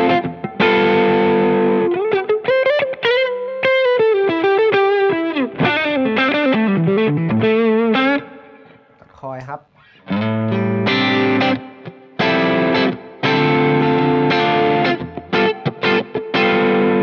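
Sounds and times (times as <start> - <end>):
overdriven electric guitar lead: 0.0 - 17.0.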